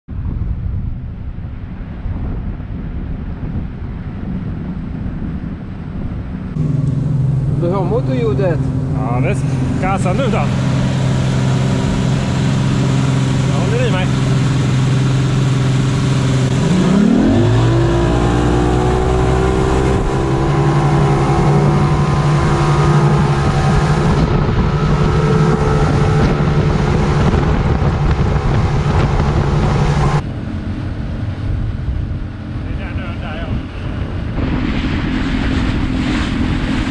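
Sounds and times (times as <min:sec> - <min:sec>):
wind and wake rushing: 0:00.1 - 0:36.9
outboard engine running: 0:06.5 - 0:36.9.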